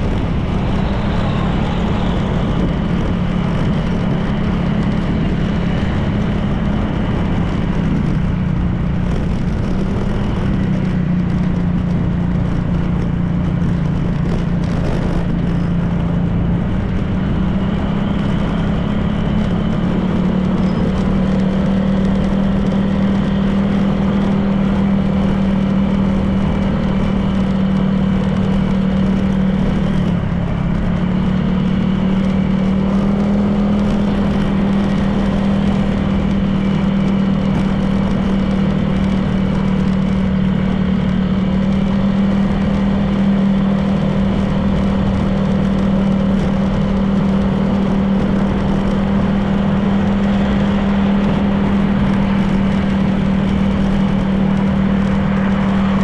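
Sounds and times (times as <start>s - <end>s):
road noise: 0.0s - 56.0s
scooter engine running: 0.0s - 56.0s
wind noise: 0.0s - 56.0s.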